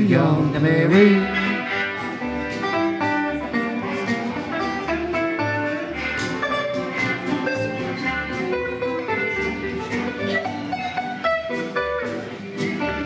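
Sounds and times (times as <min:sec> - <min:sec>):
electric guitar picking: 0:00.0 - 0:13.0
fiddles: 0:00.9 - 0:13.0.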